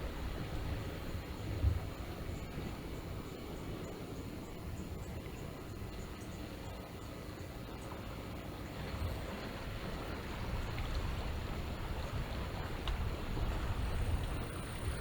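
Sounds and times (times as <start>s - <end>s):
low rumble of wind: 0.0s - 15.0s
small waves washing on shore: 0.0s - 15.0s.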